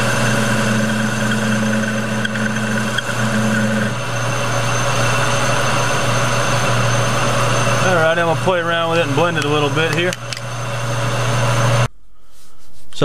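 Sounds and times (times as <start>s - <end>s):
metal lathe humming: 0.0s - 11.9s
high steady tone: 0.0s - 12.0s.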